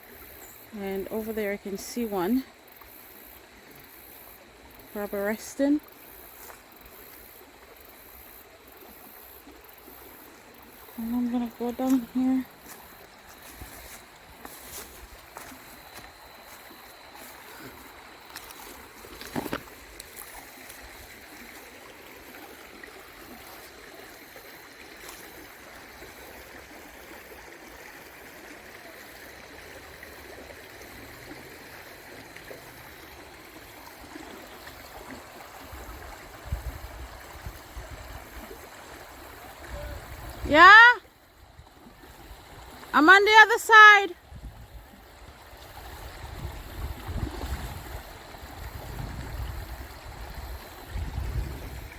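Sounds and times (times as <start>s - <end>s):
stream flowing over rocks: 0.0s - 51.9s.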